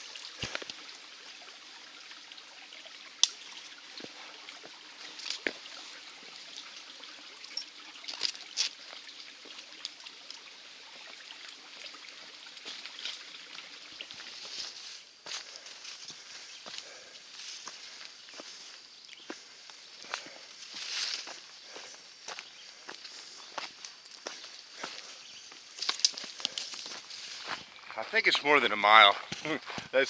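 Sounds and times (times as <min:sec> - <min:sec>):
creek trickling: 0:00.0 - 0:30.0.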